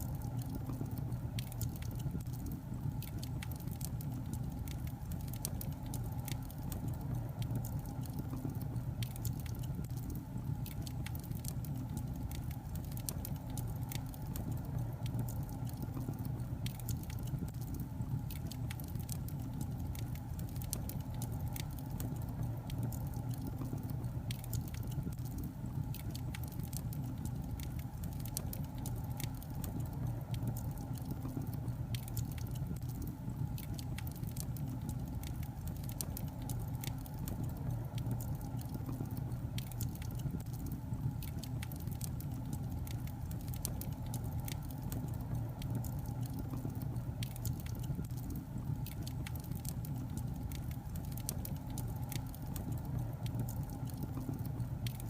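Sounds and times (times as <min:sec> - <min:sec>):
logs crackling and popping: 0:00.0 - 0:55.0
low rumble of fire: 0:00.0 - 0:55.0.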